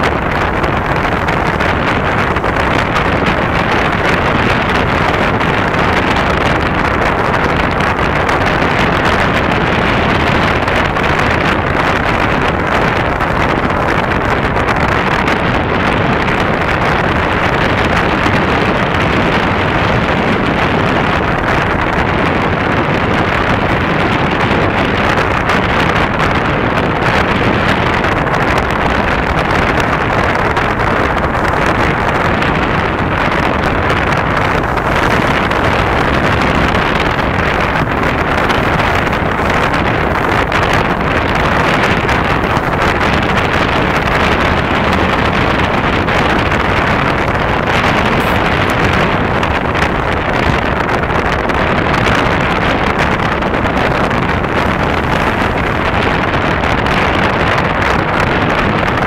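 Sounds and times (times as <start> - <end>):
surf on a beach: 0.0 - 59.0
wind: 0.0 - 59.0.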